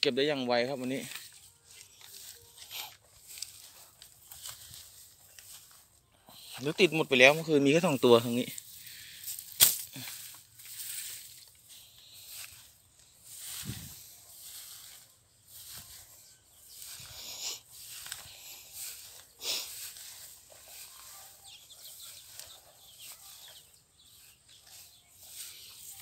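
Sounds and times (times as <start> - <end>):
footsteps through long grass: 0.1 - 26.0
grass stems rustling: 0.4 - 26.0.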